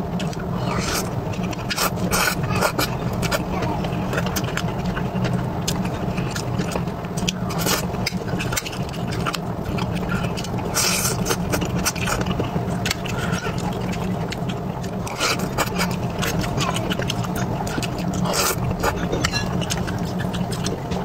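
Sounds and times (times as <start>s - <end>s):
wet chewing: 0.1s - 21.0s.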